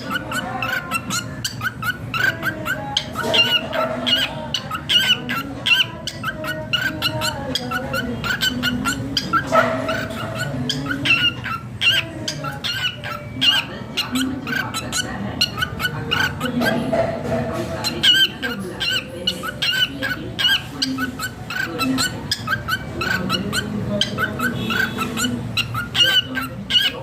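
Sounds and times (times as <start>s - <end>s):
cockatiel chirping: 0.0s - 27.0s.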